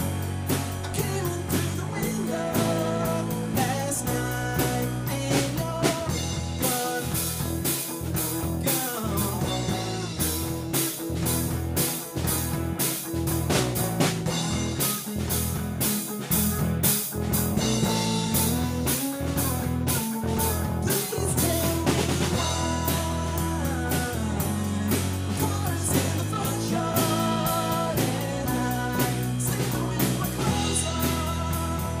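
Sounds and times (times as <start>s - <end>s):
drum kit beat: 0.0s - 32.0s
electric bass: 0.0s - 32.0s
electric guitar: 0.0s - 32.0s.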